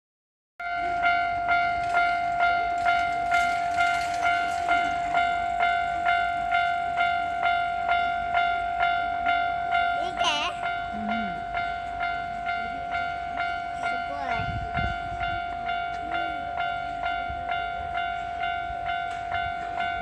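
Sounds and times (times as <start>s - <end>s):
level crossing warning bell: 0.6s - 20.0s.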